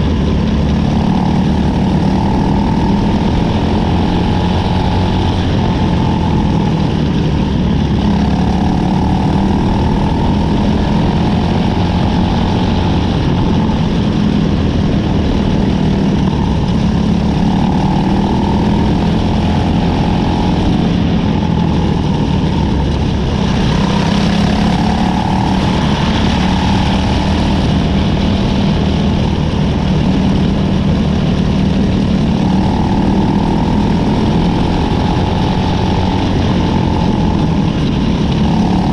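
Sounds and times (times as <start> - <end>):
race car engine running: 0.0 - 38.9.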